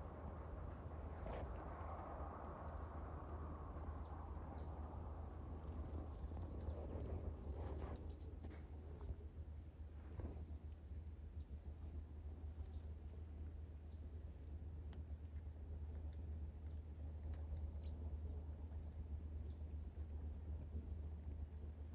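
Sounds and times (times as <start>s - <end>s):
songbirds chirping: 0.0s - 21.9s
steady low rumble: 0.0s - 21.9s.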